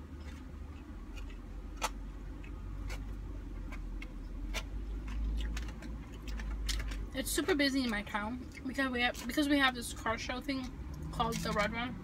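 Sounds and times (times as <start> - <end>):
chewing: 0.0 - 9.8
low steady rumble: 0.0 - 12.0.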